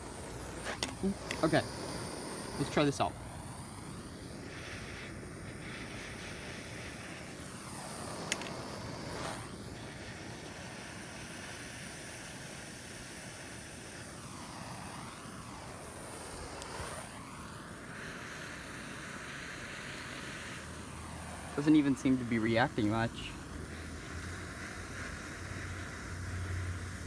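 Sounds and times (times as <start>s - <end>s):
propane torch hissing: 0.0s - 27.0s.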